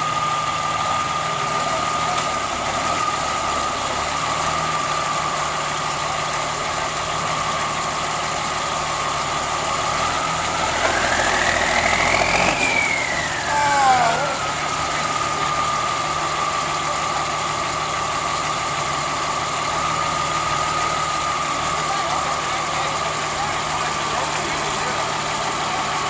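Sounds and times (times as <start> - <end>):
army truck engine idling and revving: 0.0 - 26.0.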